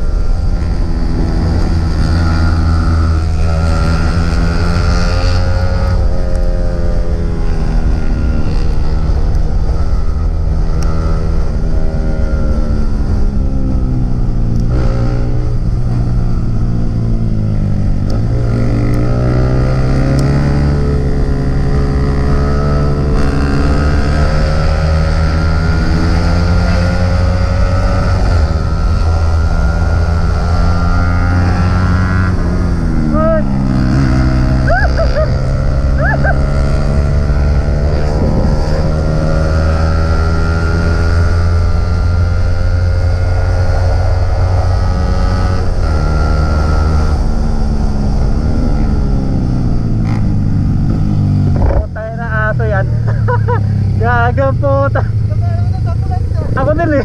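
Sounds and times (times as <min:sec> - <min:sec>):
motorcycle engine at speed: 0:00.0 - 0:57.0
wind rumble on microphone: 0:00.0 - 0:57.0.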